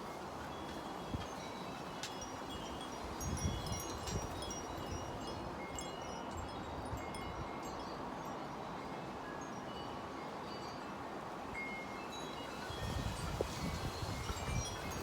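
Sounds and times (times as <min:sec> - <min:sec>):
wind gusts: 0:00.0 - 0:15.0
high ringing tinkles: 0:00.6 - 0:15.0.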